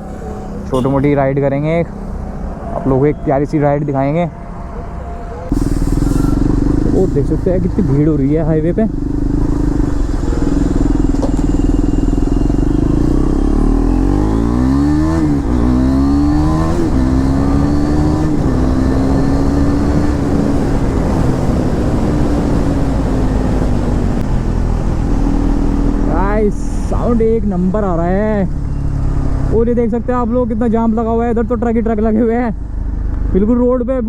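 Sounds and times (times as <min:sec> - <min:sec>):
motorcycle engine accelerating: 0:00.0 - 0:33.5.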